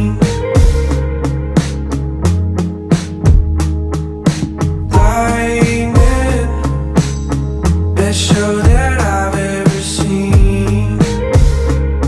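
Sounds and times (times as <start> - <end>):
drums steady beat: 0.0 - 11.9
sustained bass notes: 0.0 - 12.0.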